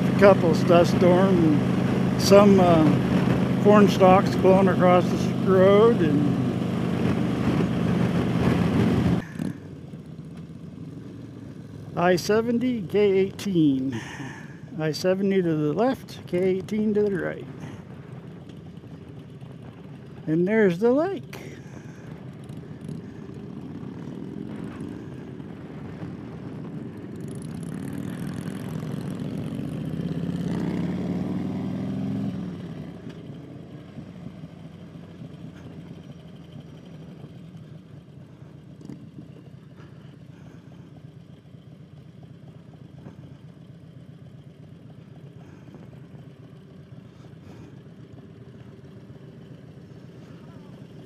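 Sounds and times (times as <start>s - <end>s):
motorcycle engine revving: 0.0s - 14.7s, 15.4s - 51.0s.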